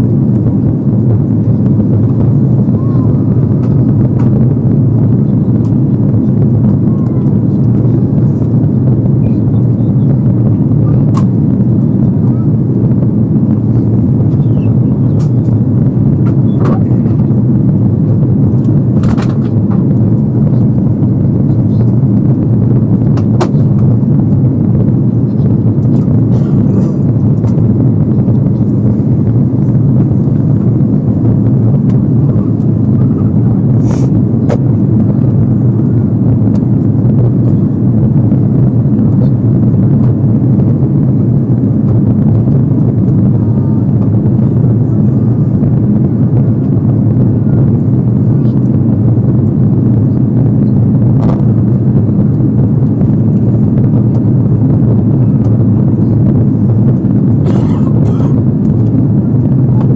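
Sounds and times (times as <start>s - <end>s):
aircraft cabin engine drone: 0.0s - 59.9s.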